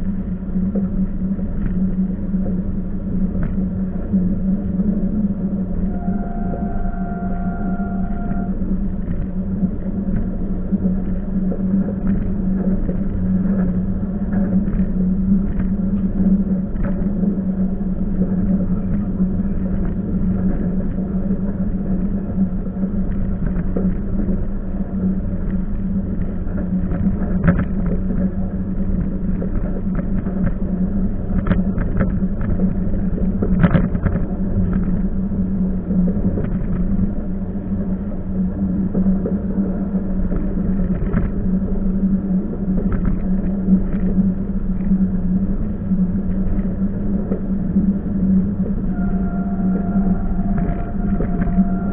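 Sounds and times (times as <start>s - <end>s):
train rumbling inside carriage: 0.0s - 51.9s.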